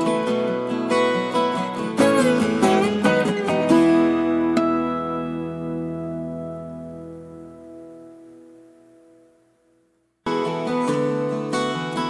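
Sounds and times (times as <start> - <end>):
plucked string background music: 0.0 - 8.7, 10.3 - 12.0.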